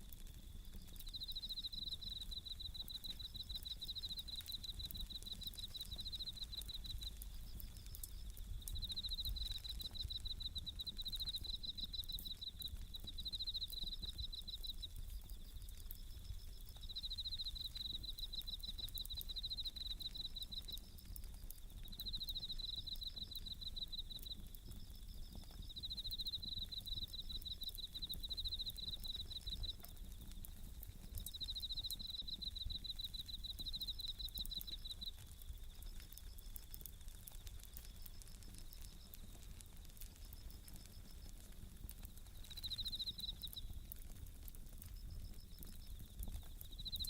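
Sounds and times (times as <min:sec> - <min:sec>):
crickets trilling: 0:00.0 - 0:47.0
wood fire crackling: 0:00.0 - 0:47.0.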